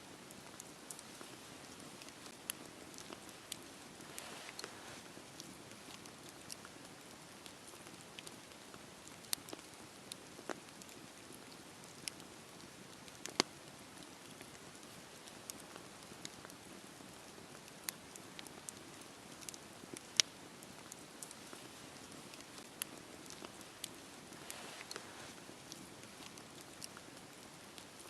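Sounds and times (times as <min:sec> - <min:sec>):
campfire crackling and hissing: 0:00.0 - 0:28.0.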